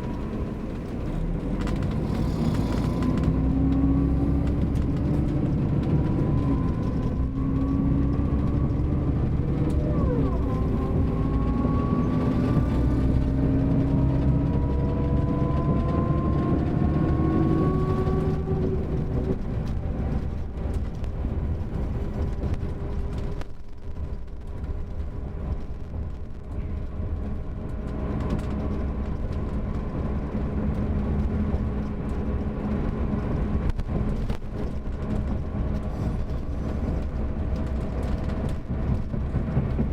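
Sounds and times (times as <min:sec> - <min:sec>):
coach diesel engine pulling: 0:00.0 - 0:39.9.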